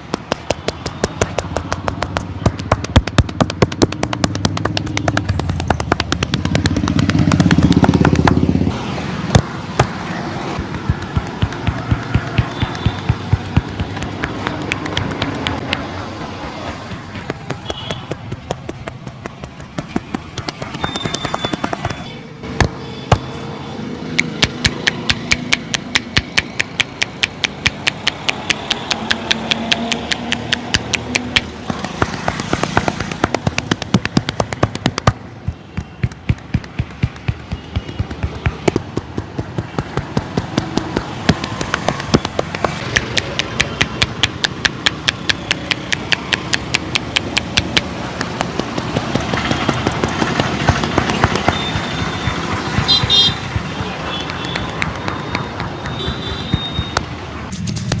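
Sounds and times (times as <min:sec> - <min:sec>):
hands slapping in percussive massage: 0:00.0 - 0:16.1, 0:16.7 - 0:23.3, 0:24.1 - 0:58.0.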